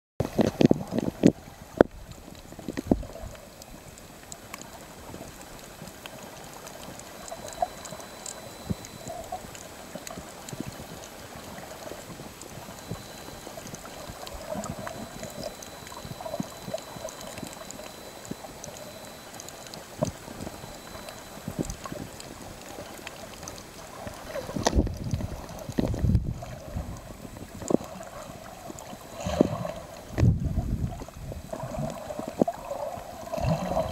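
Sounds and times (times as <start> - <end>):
faint underwater clicks: 0.2 - 33.9
water bubbling and sloshing: 0.2 - 33.9.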